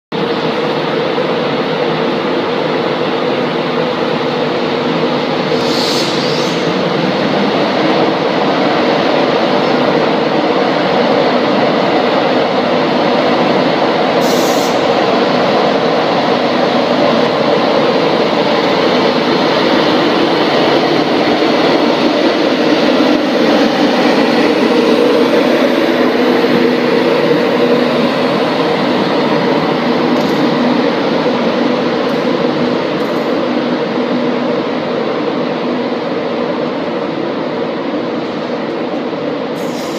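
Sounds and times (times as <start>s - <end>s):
electric locomotive drone: 0.1s - 39.9s.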